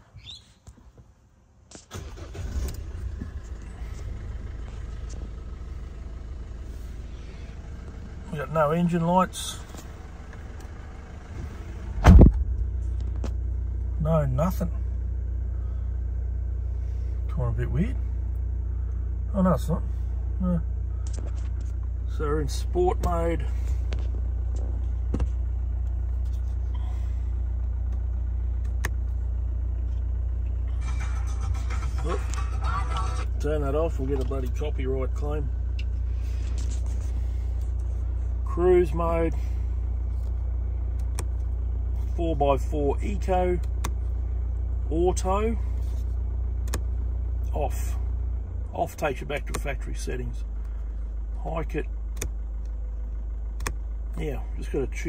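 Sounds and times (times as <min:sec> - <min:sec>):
diesel engine starting and idling: 0:00.0 - 0:55.0.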